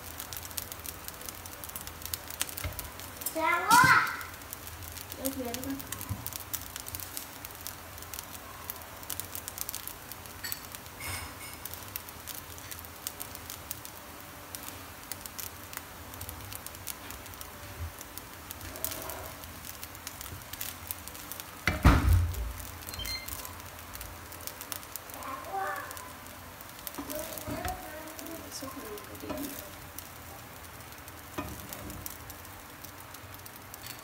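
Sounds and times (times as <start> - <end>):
rice sizzling in frying pan: 0.0 - 34.0.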